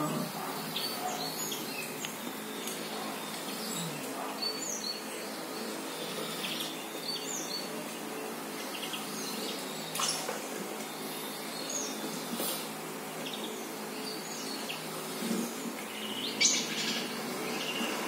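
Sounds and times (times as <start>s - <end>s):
small birds chirping: 0.0s - 18.0s
steady background hum: 0.0s - 18.0s.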